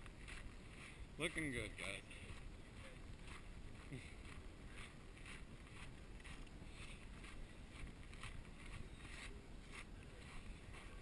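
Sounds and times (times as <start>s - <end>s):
footsteps crunching on gravel: 0.0s - 11.0s.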